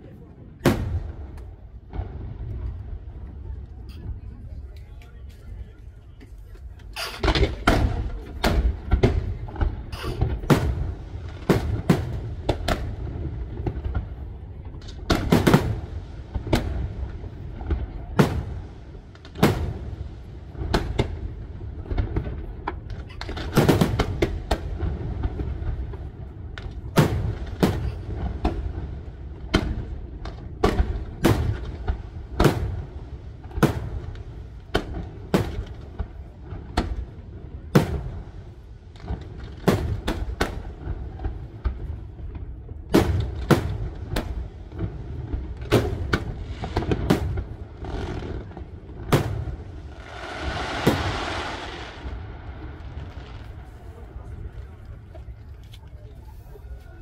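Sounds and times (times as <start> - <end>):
continuous low rumble: 0.0 - 57.0.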